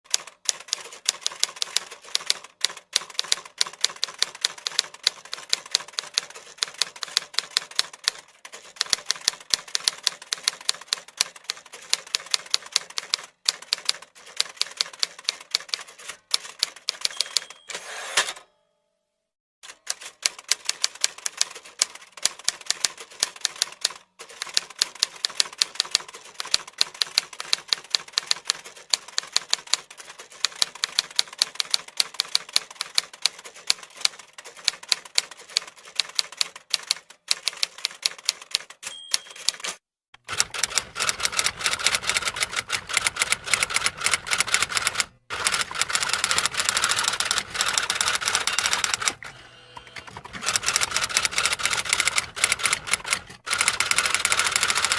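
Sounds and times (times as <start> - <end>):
typewriter keys typing: 0.1 - 17.7, 19.6 - 54.9.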